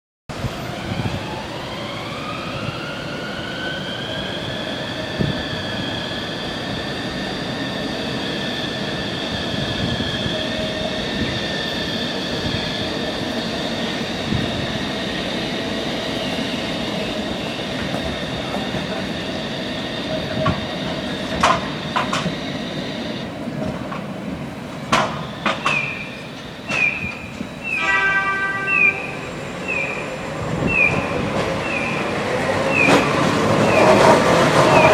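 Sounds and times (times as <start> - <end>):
tram wheels squealing on curve: 0.4 - 23.4, 24.4 - 34.9.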